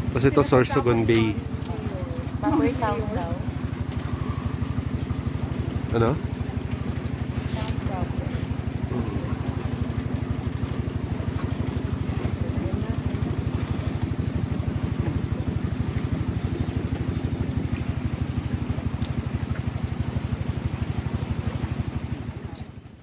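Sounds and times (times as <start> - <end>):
boat engine putter: 0.0 - 23.0.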